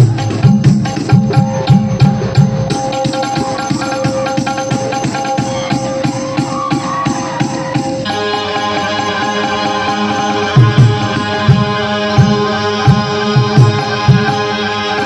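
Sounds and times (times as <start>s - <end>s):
drum beats: 0.0s - 14.6s
live band playing: 0.0s - 15.0s.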